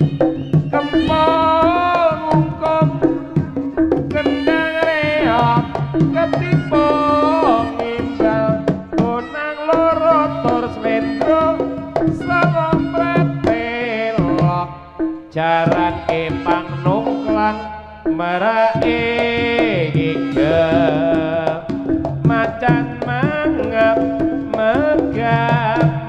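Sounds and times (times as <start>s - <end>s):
hand drums: 0.0s - 26.0s
sliding melody line: 0.0s - 26.0s.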